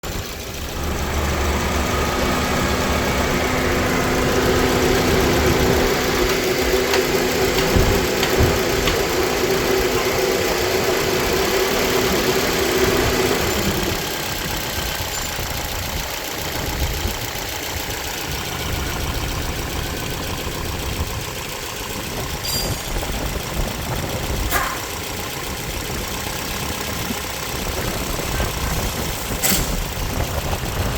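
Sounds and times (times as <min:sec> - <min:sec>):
car engine idling with misfire: 0:00.0 - 0:30.9.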